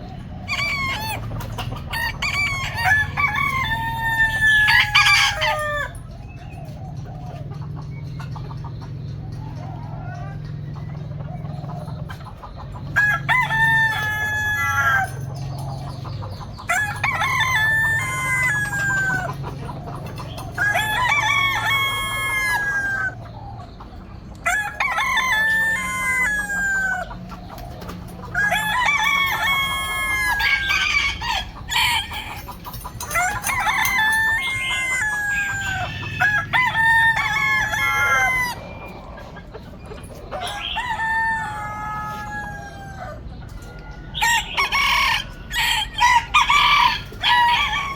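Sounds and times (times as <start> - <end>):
roosters crowing: 0.0 - 47.9.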